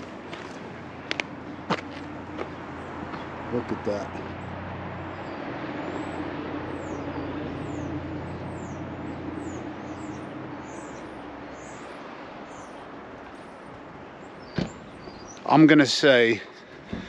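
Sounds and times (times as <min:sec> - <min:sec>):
vehicle engine humming: 0:00.0 - 0:17.0
bird chirping: 0:01.4 - 0:17.0.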